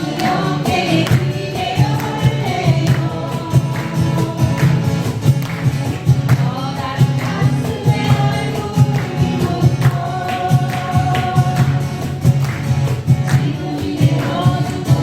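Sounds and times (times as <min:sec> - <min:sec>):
acoustic guitars strummed: 0:00.0 - 0:15.0
group of people singing: 0:00.0 - 0:15.0.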